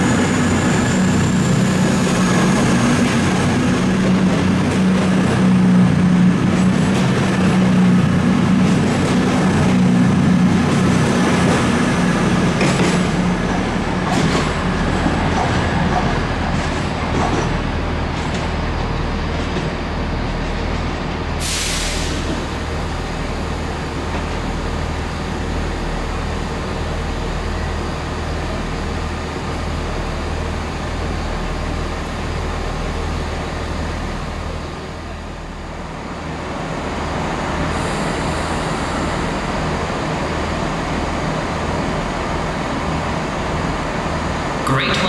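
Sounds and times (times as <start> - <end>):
diesel train engine droning: 0.0 - 45.0
rushing noise of moving train: 0.0 - 45.0.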